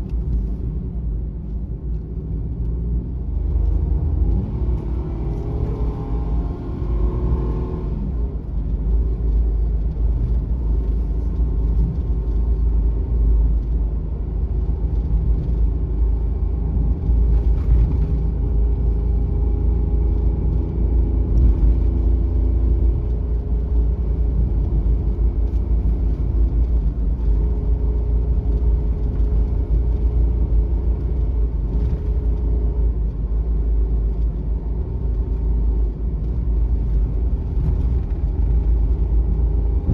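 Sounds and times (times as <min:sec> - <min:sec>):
van engine and road noise: 0:00.0 - 0:39.9.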